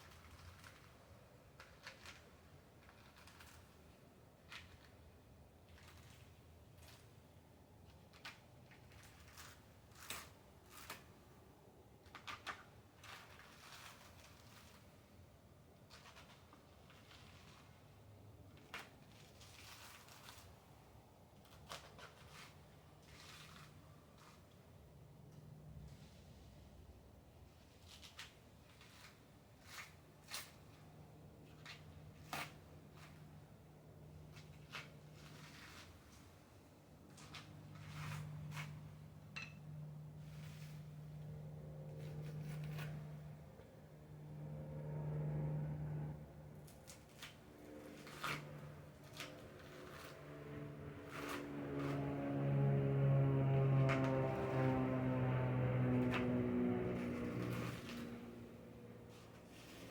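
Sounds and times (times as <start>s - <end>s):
coconut husk tearing: 0.0s - 11.4s, 12.0s - 15.2s, 15.8s - 24.6s, 31.5s - 43.6s, 46.6s - 59.9s.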